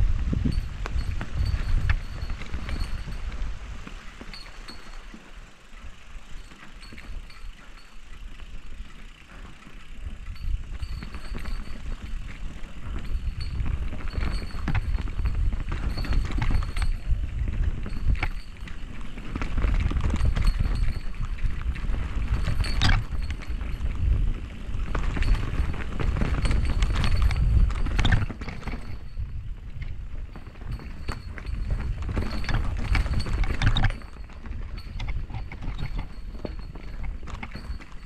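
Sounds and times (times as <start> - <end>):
bike chain and frame rattling: 0.0 - 38.0
bike tyres rolling over dirt: 0.0 - 38.0
wind rumbling on microphone: 0.0 - 38.0.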